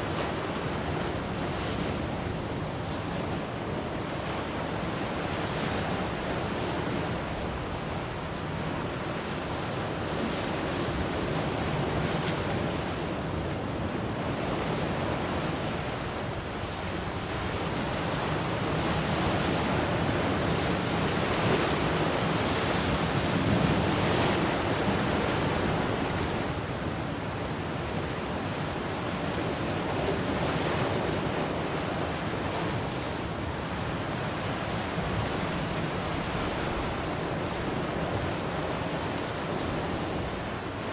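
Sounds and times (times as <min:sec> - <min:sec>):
ocean surf washing ashore: 0:00.0 - 0:40.9.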